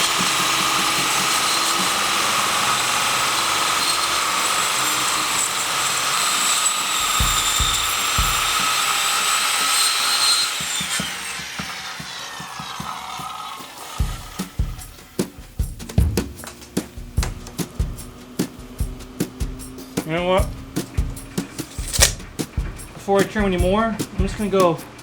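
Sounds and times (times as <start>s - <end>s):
circular saw cutting wood: 0.0s - 15.4s, 16.4s - 25.0s.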